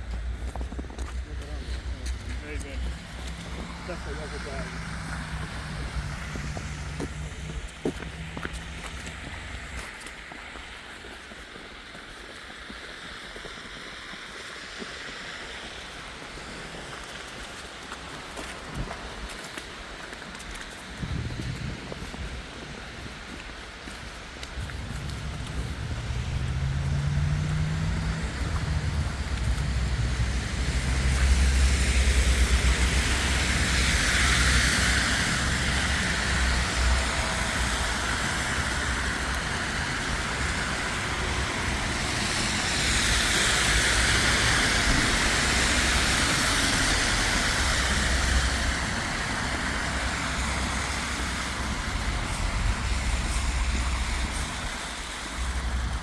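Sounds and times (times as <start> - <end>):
vehicles passing: 0.0 - 10.8, 15.2 - 56.0
low traffic rumble: 0.0 - 11.9, 12.5 - 56.0.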